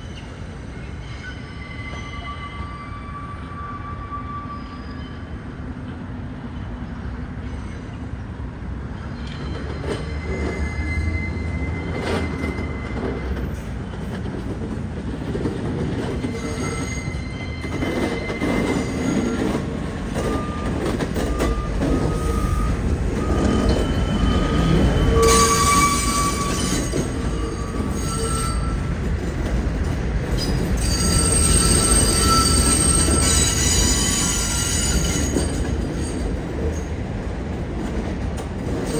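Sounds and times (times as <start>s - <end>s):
train wheels squealing: 0.0s - 5.6s, 6.5s - 8.1s, 9.0s - 13.9s, 16.0s - 29.0s, 30.3s - 37.0s
low train rumble: 0.0s - 38.9s.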